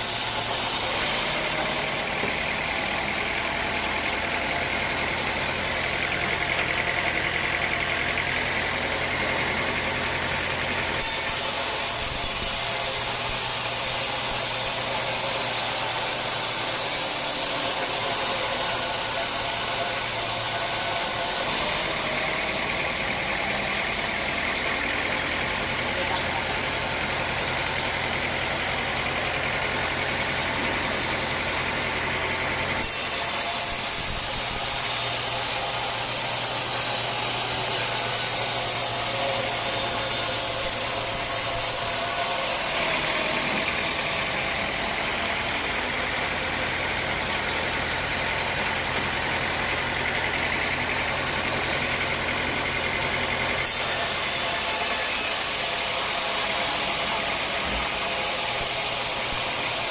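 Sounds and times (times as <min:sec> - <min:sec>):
sawmill engine drone: 0:00.0 - 0:59.9.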